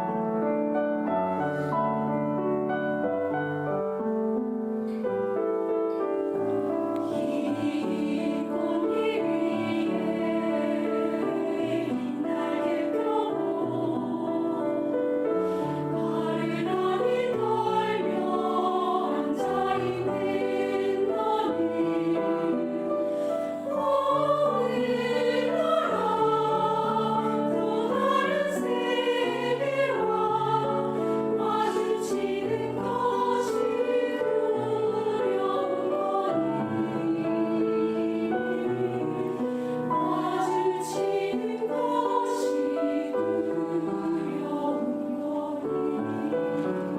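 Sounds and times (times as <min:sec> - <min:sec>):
mixed choir singing: 0:06.5 - 0:46.9.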